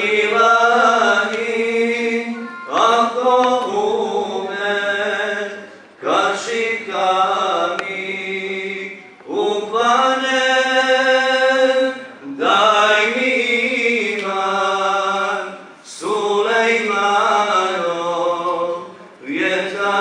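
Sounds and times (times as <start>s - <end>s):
unaccompanied devotional chant: 0.0s - 20.0s.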